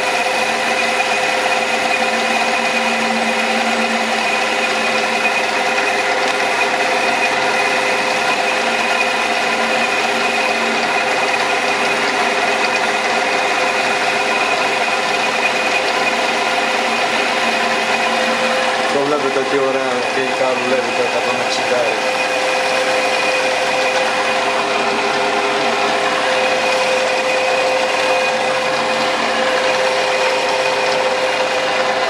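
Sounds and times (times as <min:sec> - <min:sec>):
metal lathe whining and humming: 0:00.0 - 0:32.0.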